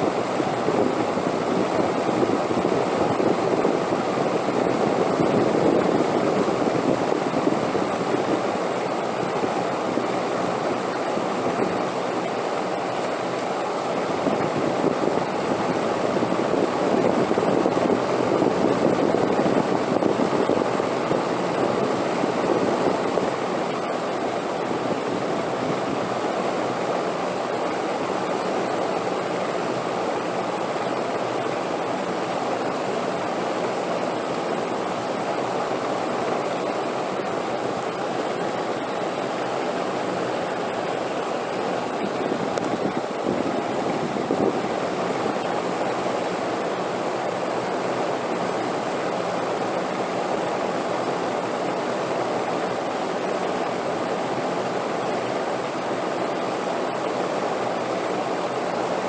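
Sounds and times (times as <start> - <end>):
rushing wind: 0.0 - 59.0.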